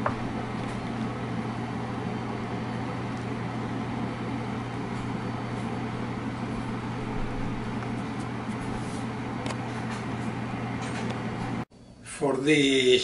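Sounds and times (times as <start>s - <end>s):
kitchen fan humming: 0.0s - 13.0s.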